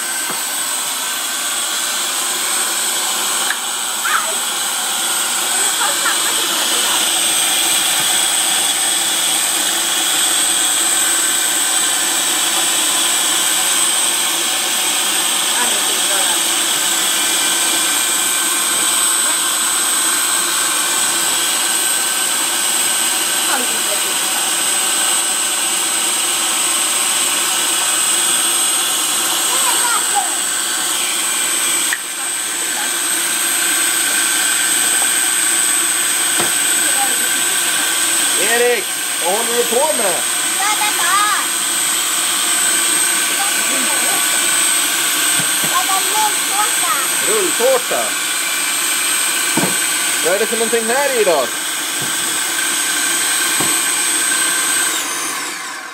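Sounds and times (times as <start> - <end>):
food processor whisking: 0.0 - 55.9.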